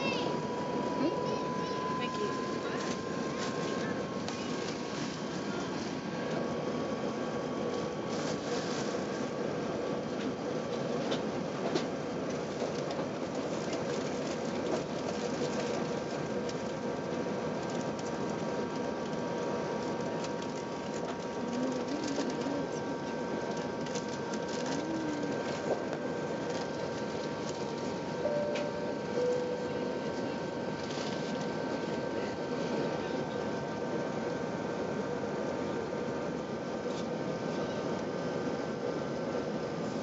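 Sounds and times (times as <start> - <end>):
faint steady whine: 0.0 - 10.0, 13.8 - 40.0
airplane cabin engine and airflow noise: 0.0 - 40.0.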